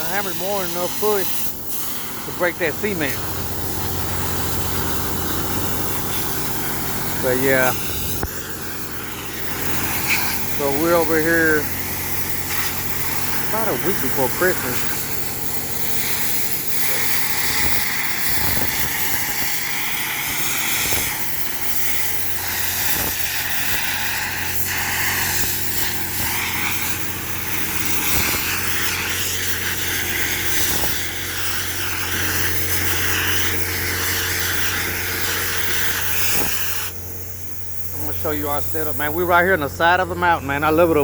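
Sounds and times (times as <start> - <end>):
engine hum: 0.0 - 41.0.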